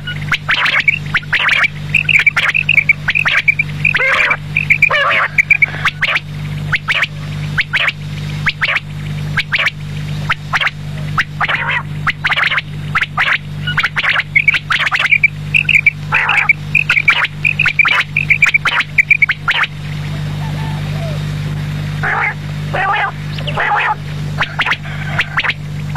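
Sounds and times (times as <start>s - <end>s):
quail calling: 0.0s - 25.9s
steady low hum: 0.0s - 25.9s.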